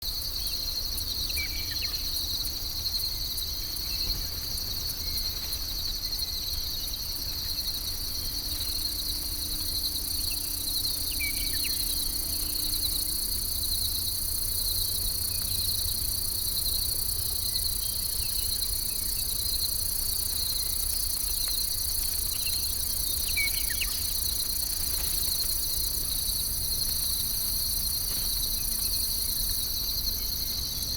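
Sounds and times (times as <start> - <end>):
insects trilling: 0.1 - 30.9.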